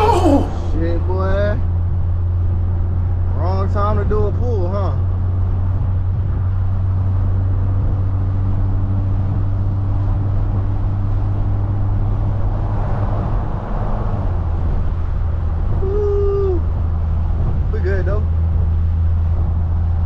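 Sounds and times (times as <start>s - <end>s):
low exhaust drone inside car: 0.0s - 20.0s.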